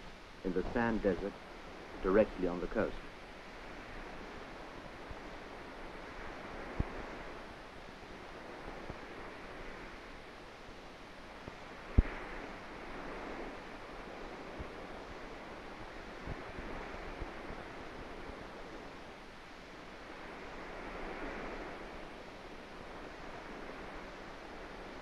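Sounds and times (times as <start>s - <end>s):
surf and wind rushing: 0.0s - 25.0s.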